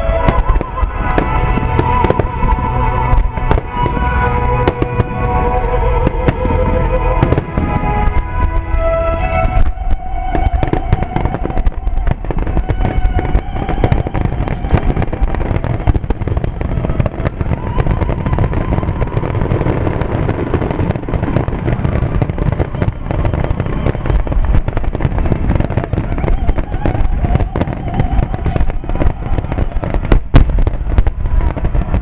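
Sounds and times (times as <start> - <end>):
firework booms and crackles: 0.0 - 32.0.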